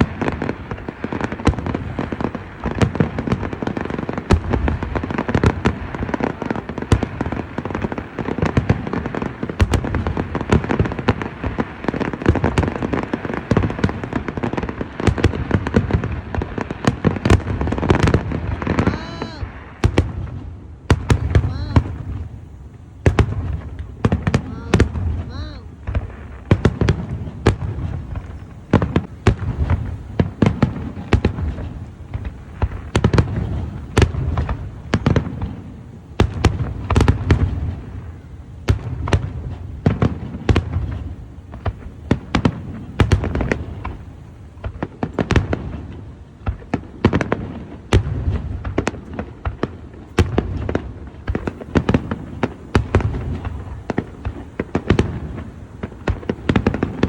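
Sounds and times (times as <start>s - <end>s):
fireworks cracking: 0.0s - 57.0s
low rumble of booms: 4.2s - 57.0s.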